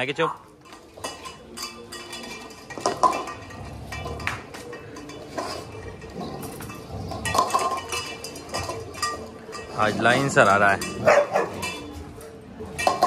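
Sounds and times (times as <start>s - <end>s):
metal dog bowls clinking: 0.0s - 13.0s.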